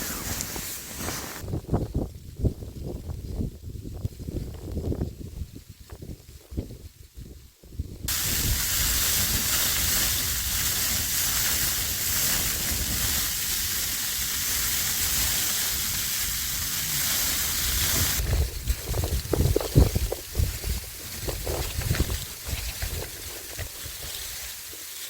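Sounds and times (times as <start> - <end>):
wind-driven snow hissing on tent: 0.0 - 25.0.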